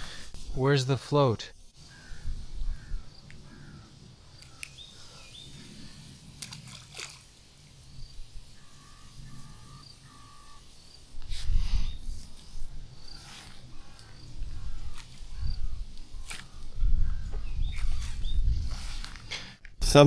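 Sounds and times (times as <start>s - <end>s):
small birds chirping: 1.6s - 18.8s.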